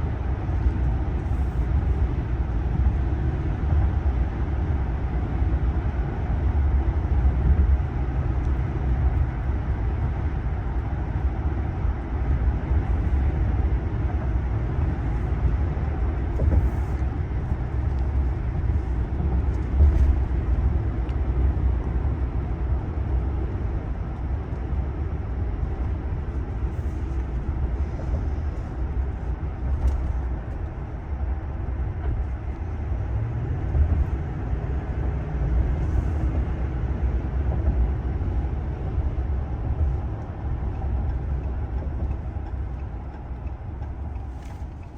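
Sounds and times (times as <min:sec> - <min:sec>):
low rumble of road and engine: 0:00.0 - 0:44.9.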